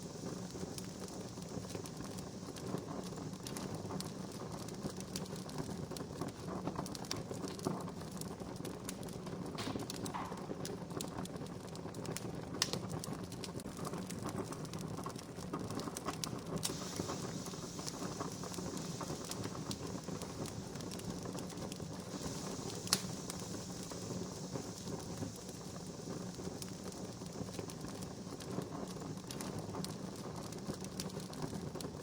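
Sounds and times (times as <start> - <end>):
campfire crackling: 0.0 - 32.0
sharp fire pops: 0.0 - 32.0.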